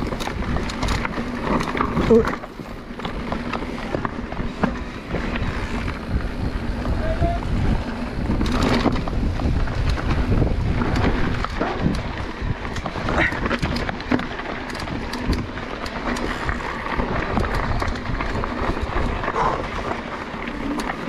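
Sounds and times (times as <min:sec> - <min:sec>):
bike tyres clicking over stones: 0:00.0 - 0:21.0
low rumble of bike riding: 0:00.0 - 0:21.0
wind buffeting microphone: 0:00.0 - 0:21.0.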